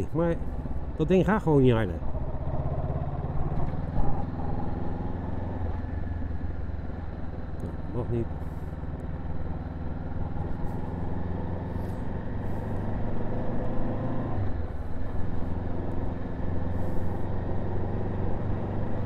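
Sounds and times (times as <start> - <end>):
road noise: 0.0 - 19.0
motorcycle engine running: 2.0 - 19.0.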